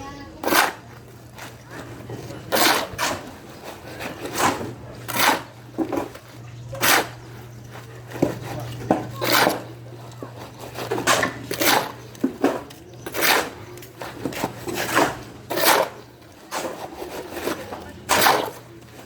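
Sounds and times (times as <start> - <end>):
steady low hum: 0.0 - 17.0
hand tools scraping hard material: 0.3 - 19.0.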